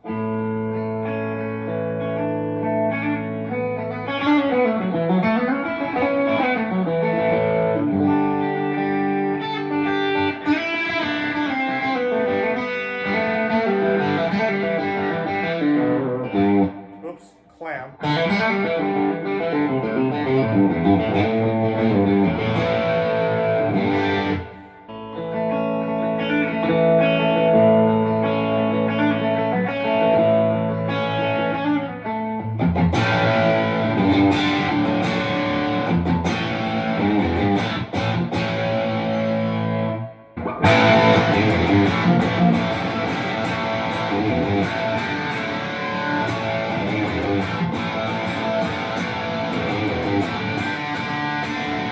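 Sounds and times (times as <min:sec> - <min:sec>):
overdriven electric guitar chords: 0:00.0 - 0:17.1, 0:18.0 - 0:51.9.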